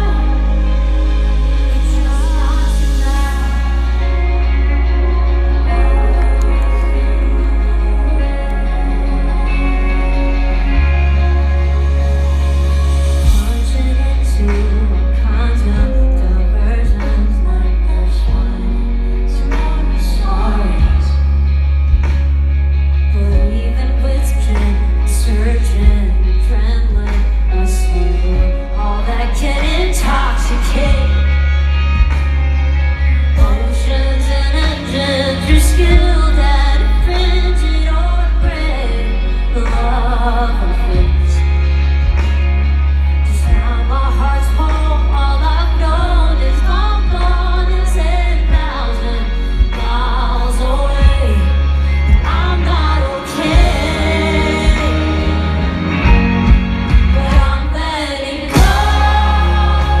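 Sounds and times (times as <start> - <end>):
person singing: 0.0 - 22.1, 23.1 - 60.0
heavy bass: 0.0 - 60.0
live pop-rock concert music: 0.0 - 60.0.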